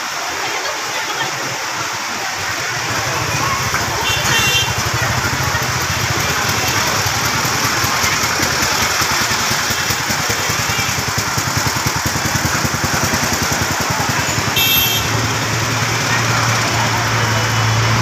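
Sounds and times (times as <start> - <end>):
engine idling: 2.1 - 18.0.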